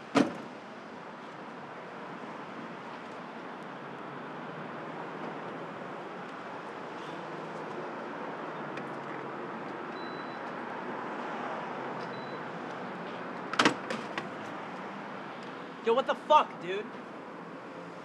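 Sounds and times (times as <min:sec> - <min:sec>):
steady traffic noise: 0:00.0 - 0:18.0.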